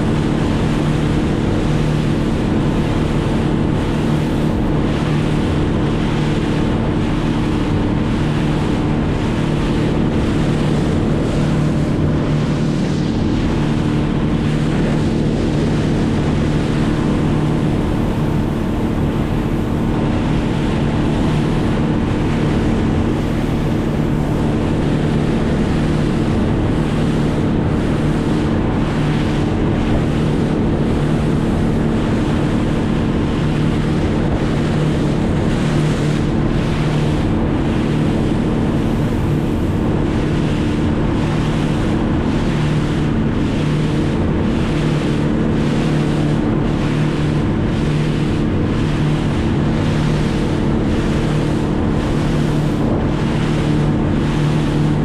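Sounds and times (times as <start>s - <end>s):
boat motor running: 0.0s - 55.0s
water rushing past hull: 0.0s - 55.0s
wind buffeting microphone: 0.0s - 55.0s.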